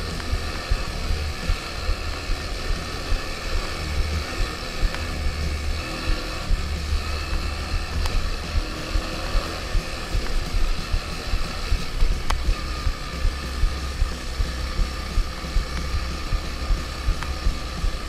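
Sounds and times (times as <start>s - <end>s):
small single-cylinder engine running: 0.0s - 18.0s.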